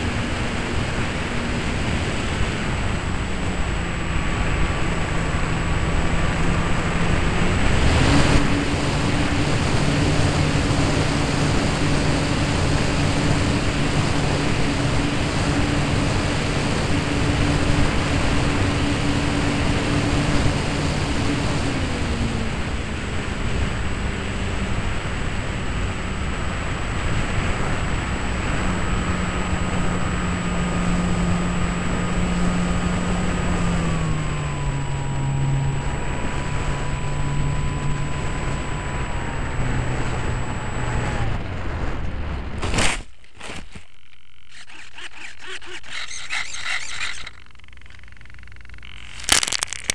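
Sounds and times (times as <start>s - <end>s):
model plane motor and propeller: 0.0s - 49.9s
steady rushing noise: 0.0s - 49.9s.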